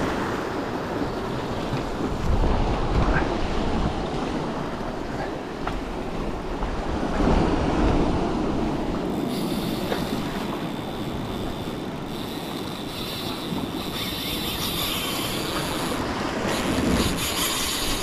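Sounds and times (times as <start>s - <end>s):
surf washing against rocks: 0.0s - 18.0s
wind buffeting microphone: 0.7s - 18.0s.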